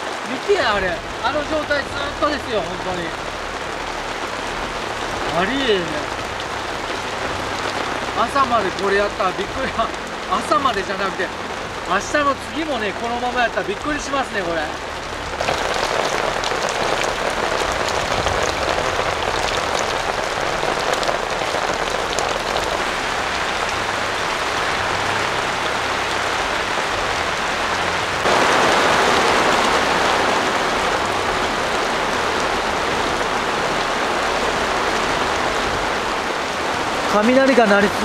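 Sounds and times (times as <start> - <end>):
torrential rain: 0.0 - 38.0.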